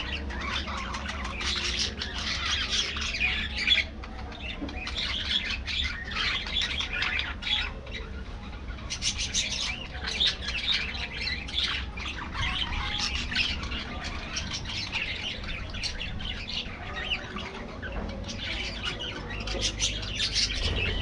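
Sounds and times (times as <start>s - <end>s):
budgerigars chattering: 0.0s - 21.0s.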